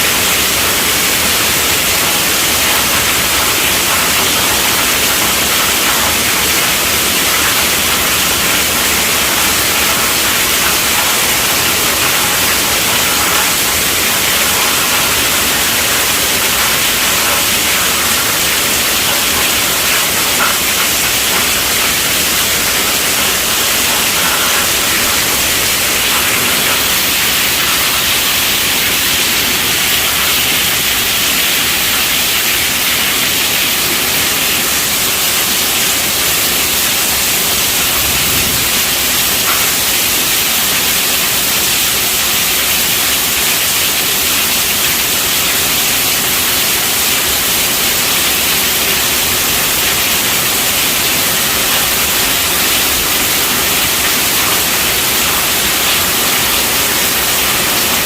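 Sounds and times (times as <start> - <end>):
heavy rain on a tent roof: 0.0 - 58.0.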